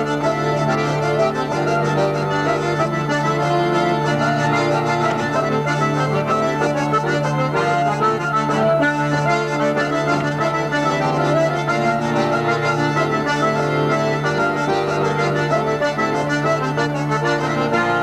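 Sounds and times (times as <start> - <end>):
bagpipes drone: 0.0 - 18.0
folk dance tune on accordion: 0.0 - 18.0
hurdy-gurdy: 0.0 - 18.0.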